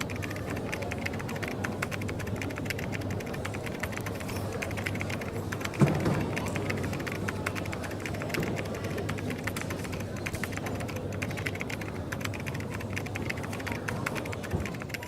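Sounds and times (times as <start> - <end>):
coffee shop background noise: 0.0 - 15.0
typing on computer keyboard: 0.0 - 15.0.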